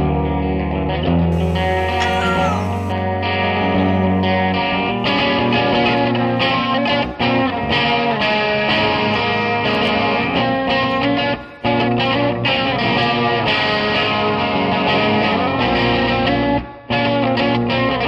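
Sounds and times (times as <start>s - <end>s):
guitar music: 1.1s - 18.0s.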